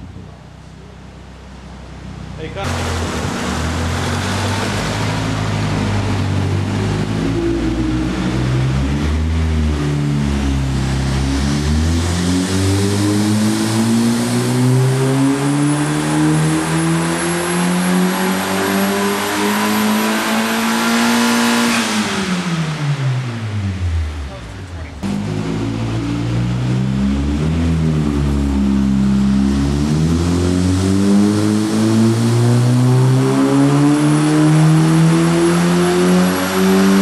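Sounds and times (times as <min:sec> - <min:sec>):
car engine revving: 0:00.9 - 0:37.0.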